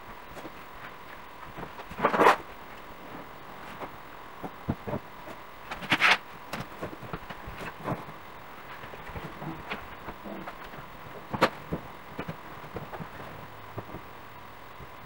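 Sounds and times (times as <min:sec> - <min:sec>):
furniture scraping rustle: 0:00.3 - 0:14.1.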